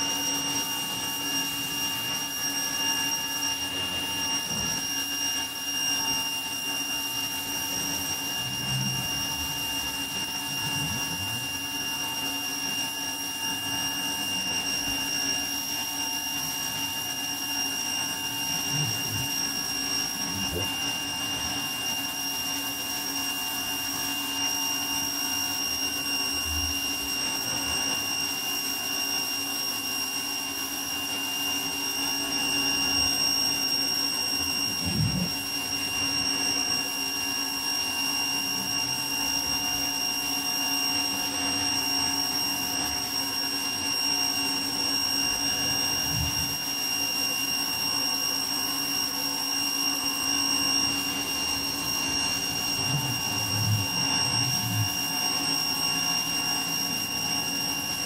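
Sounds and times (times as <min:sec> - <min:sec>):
pressure washer whining: 0:00.0 - 0:58.0.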